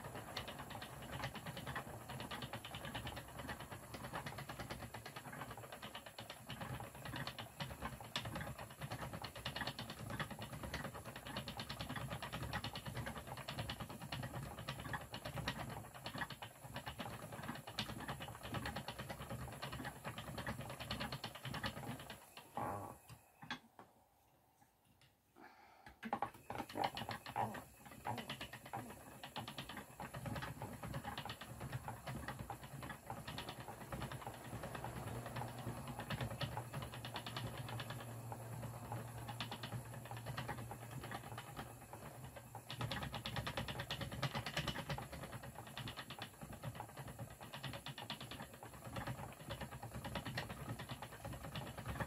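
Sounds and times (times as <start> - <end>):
spinning wheel clattering: 0.0 - 22.8, 26.1 - 52.0.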